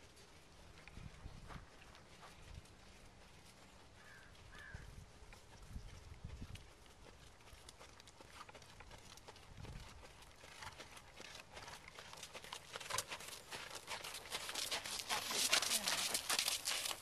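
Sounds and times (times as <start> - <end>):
hoofbeats on sand: 0.0 - 17.0.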